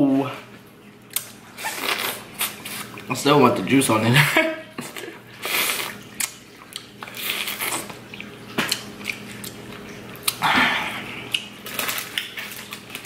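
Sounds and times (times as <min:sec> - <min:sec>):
trickle of aquarium filter: 0:00.4 - 0:13.0.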